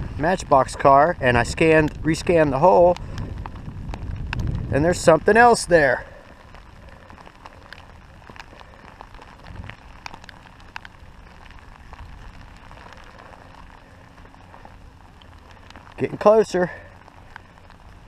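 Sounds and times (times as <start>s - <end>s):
raindrops ticking close by: 0.0s - 18.0s
steady rain hiss: 0.0s - 18.0s.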